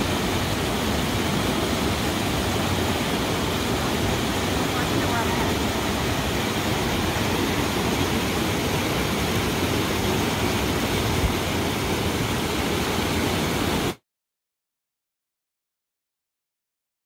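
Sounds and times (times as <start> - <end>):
creek rushing over boulders: 0.0 - 14.0.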